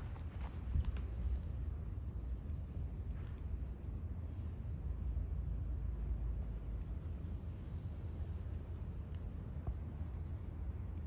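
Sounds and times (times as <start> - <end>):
high insect trill: 0.0 - 11.0
low outdoor rumble: 0.0 - 11.0.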